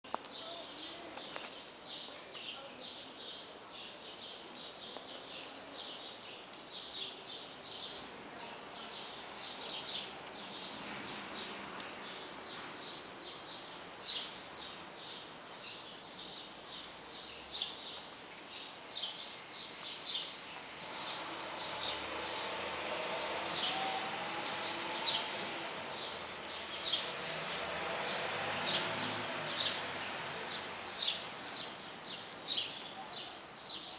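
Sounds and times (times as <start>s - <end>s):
small birds chirping: 0.0s - 33.9s
outdoor background hiss: 0.1s - 33.9s.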